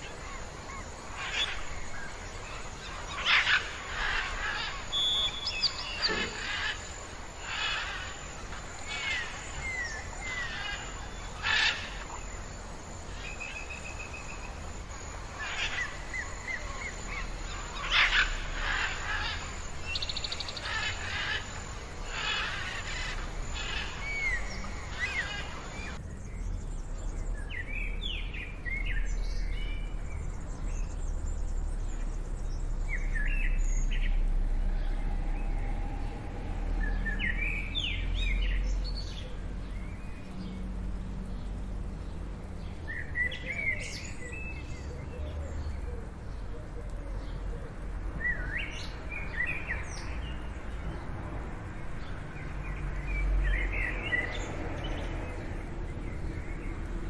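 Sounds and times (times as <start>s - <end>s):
birds calling and singing: 0.0s - 57.0s.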